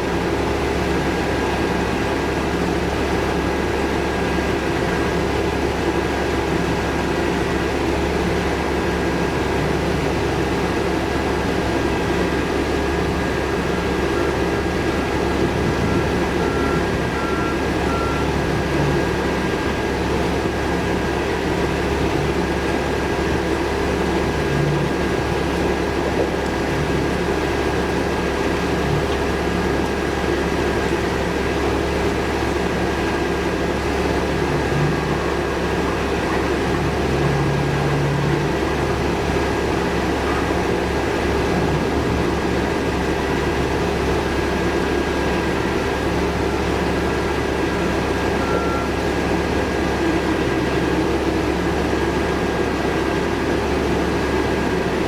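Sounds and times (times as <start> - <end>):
city street traffic rumble: 0.0 - 55.0.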